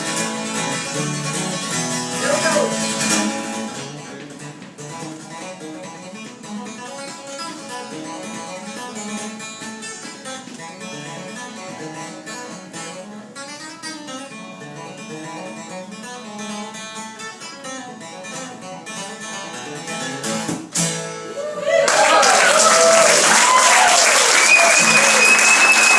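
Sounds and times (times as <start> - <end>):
picked acoustic guitar: 0.0 - 21.4.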